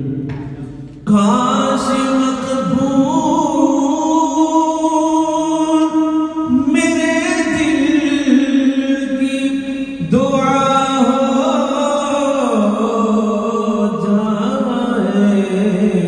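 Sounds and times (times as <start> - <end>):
man singing into a microphone: 1.0 - 16.0.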